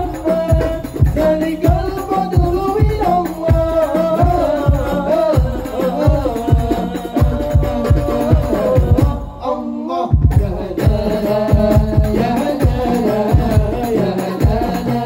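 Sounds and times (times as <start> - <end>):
hand frame drums beating: 0.0 - 9.3, 10.2 - 15.0
man singing long held notes: 0.0 - 15.0.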